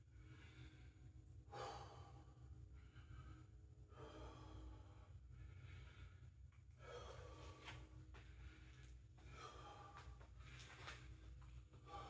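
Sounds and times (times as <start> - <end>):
man breathing heavily: 0.0 - 12.0.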